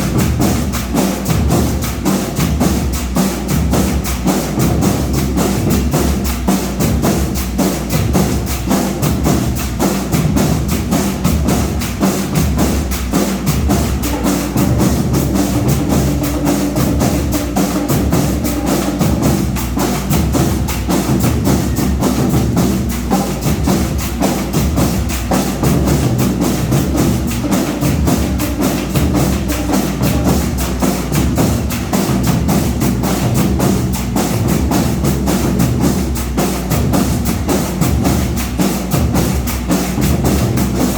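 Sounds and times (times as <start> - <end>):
marching band playing: 0.0 - 40.9
snare and bass drums: 0.0 - 40.9.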